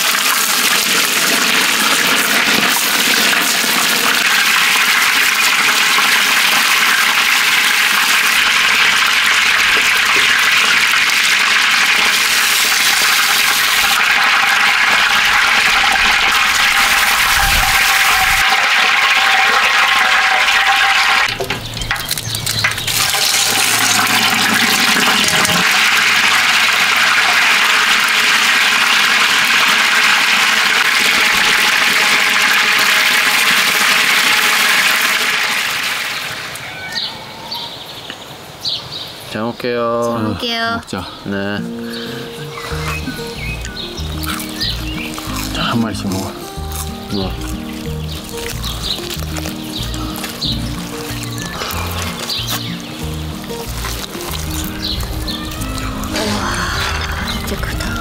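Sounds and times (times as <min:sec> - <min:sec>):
chicken deep-frying in oil: 0:00.0 - 0:37.1, 0:42.8 - 0:58.0.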